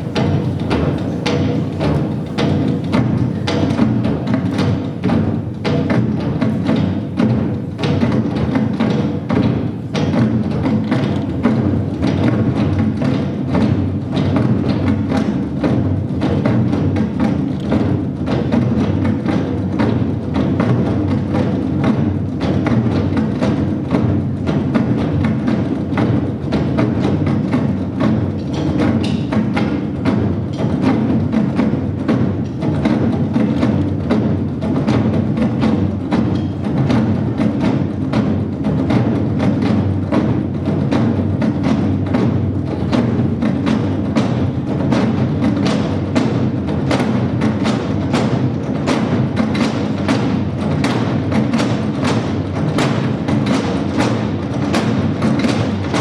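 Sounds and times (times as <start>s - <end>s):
drum ensemble: 0.0s - 56.0s.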